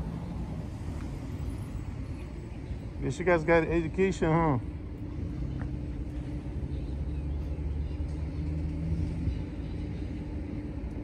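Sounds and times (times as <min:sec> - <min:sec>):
low rumble with constant hum: 0:00.0 - 0:11.0.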